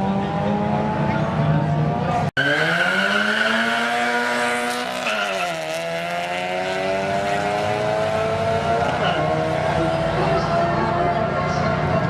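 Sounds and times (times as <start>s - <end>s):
drag racing car engine: 0.0s - 12.0s.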